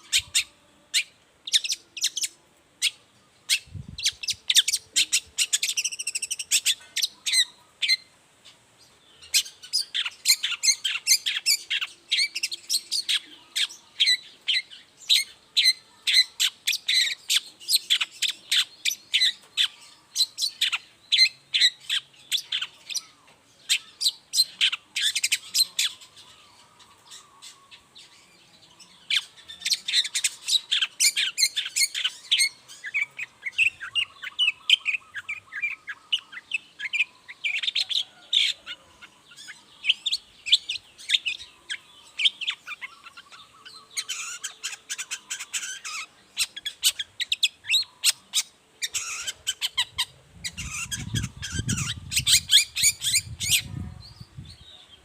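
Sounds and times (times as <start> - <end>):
bird singing high chirps: 0.0 - 55.0.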